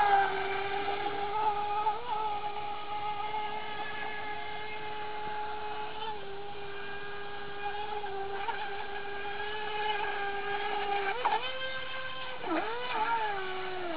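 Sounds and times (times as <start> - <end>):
electric motor whining: 0.0 - 13.9.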